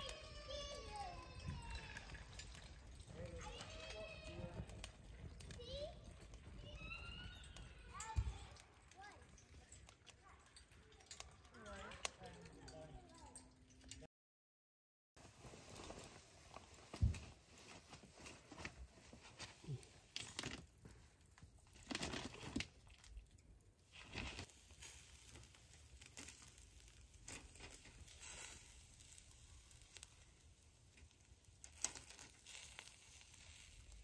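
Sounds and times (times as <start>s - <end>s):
meat grilling over charcoal: 0.0s - 13.3s, 15.2s - 34.0s.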